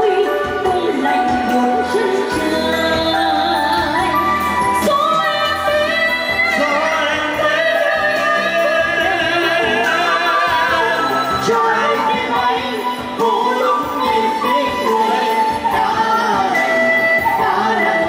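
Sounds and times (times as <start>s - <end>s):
instrumental accompaniment: 0.0s - 18.0s
woman singing with vibrato: 0.0s - 18.0s.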